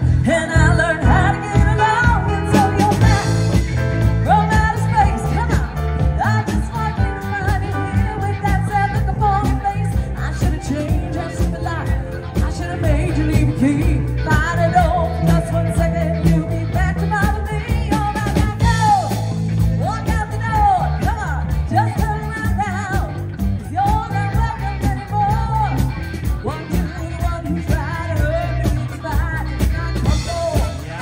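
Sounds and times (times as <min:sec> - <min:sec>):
bass guitar: 0:00.0 - 0:31.0
drum kit: 0:00.0 - 0:31.0
electric guitar: 0:00.0 - 0:31.0
woman singing: 0:00.0 - 0:31.0.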